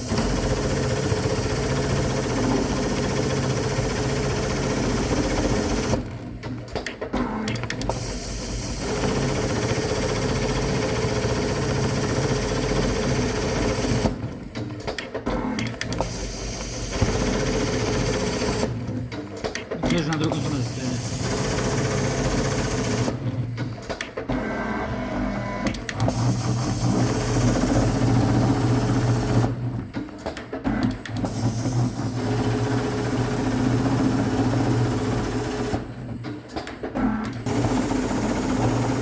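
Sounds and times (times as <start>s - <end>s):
sewing machine stitching: 0.0s - 39.0s.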